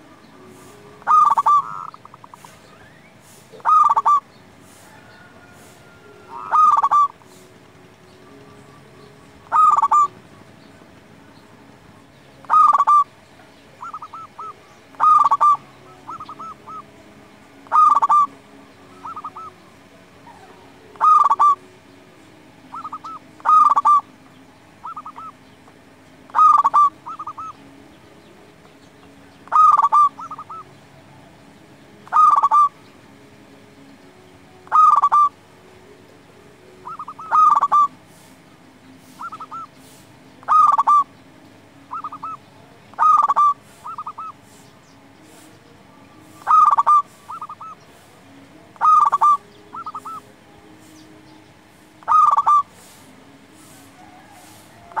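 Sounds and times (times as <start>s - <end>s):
dove cooing: 0.0s - 17.0s, 17.6s - 25.4s, 26.2s - 27.6s, 29.0s - 31.4s, 32.0s - 32.8s, 34.6s - 35.4s, 36.2s - 41.2s, 41.8s - 44.6s, 45.2s - 55.0s.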